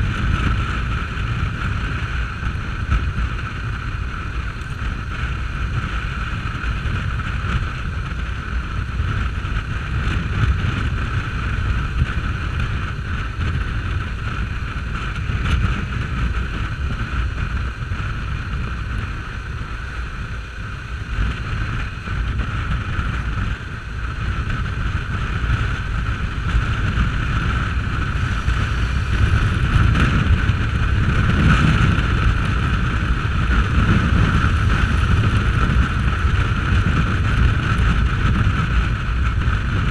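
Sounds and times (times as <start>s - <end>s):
motorcycle engine drone: 0.0s - 39.9s
wind rushing on microphone: 0.0s - 39.9s.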